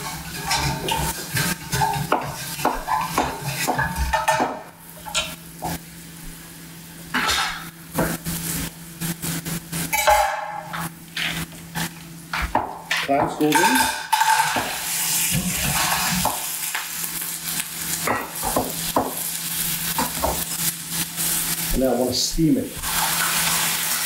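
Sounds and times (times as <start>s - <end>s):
onions and garlic sizzling in pan: 0.0s - 24.0s.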